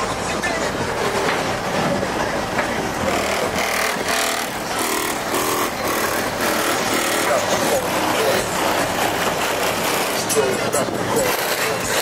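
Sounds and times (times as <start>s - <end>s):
car engines running: 0.0s - 12.0s
distant voices: 0.0s - 12.0s.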